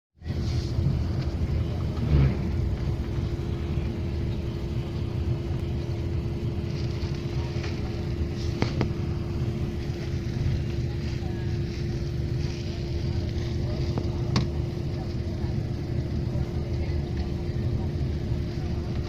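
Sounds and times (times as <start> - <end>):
engine rumbling: 0.2 - 19.0.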